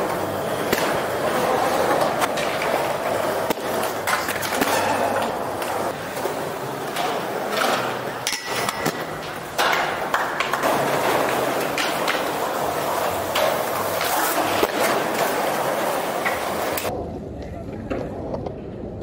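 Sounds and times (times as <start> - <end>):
skate wheels rolling on concrete: 0.0 - 19.0.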